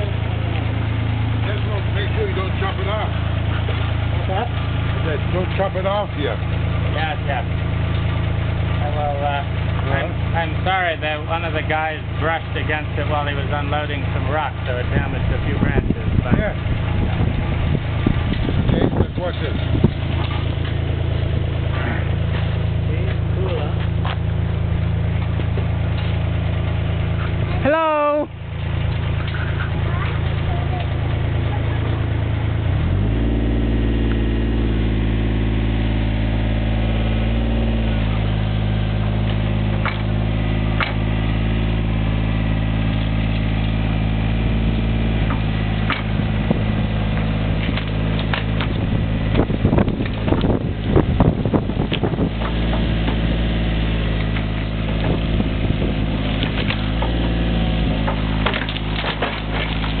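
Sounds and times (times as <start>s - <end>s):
diesel excavator engine under load: 0.0s - 60.0s
tracks grinding over ground: 0.0s - 60.0s.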